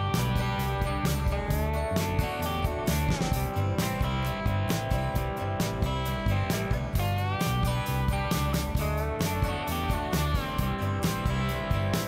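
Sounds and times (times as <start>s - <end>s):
instrumental music with guitar and beat: 0.0s - 12.0s.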